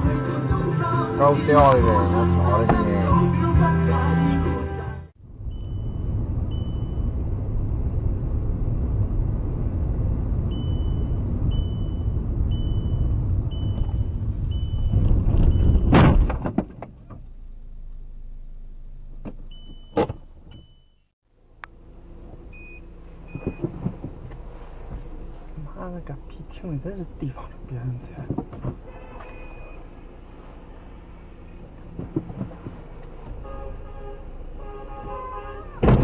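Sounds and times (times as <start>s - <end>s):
vehicle road rumble: 0.0s - 36.0s.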